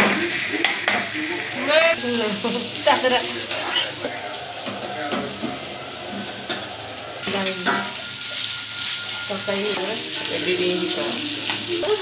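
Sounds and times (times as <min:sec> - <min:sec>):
onions sizzling in oil: 0:00.0 - 0:12.0
spatula stirring in pan: 0:00.0 - 0:12.0.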